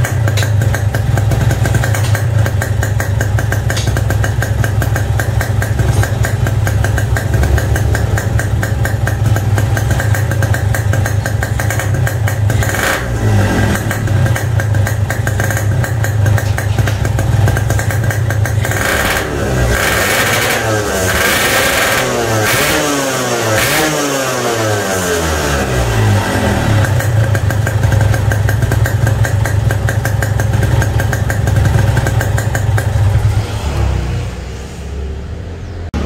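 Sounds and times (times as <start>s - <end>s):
two-stroke engine idling: 0.0s - 33.4s.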